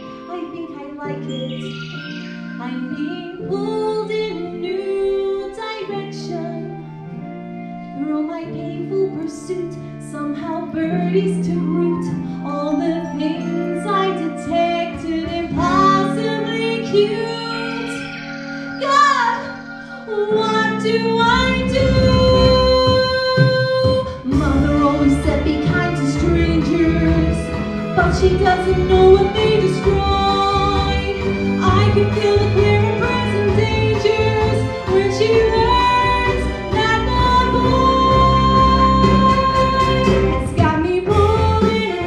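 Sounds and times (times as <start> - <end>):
woman singing into microphone: 0.0 - 2.0, 2.6 - 6.8, 8.0 - 42.0
musical accompaniment: 0.0 - 42.0.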